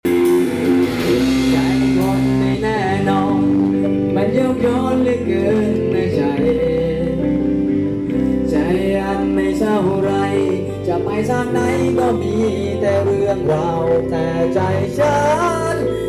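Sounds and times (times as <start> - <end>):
guitar: 0.0 - 16.0
live band playing: 0.0 - 16.0.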